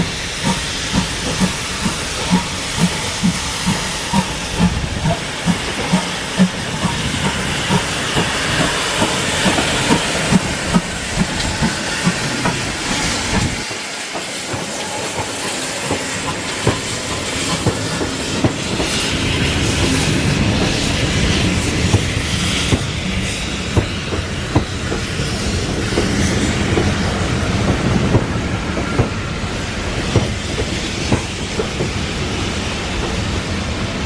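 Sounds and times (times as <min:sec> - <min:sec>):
steam hissing: 0:00.0 - 0:34.0
steam locomotive exhaust beat: 0:00.0 - 0:34.0.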